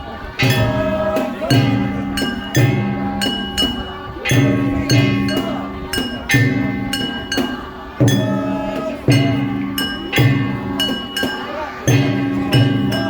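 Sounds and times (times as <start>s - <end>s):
music with sustained notes: 0.0s - 13.0s
percussive beat with metallic clinks: 0.4s - 13.0s.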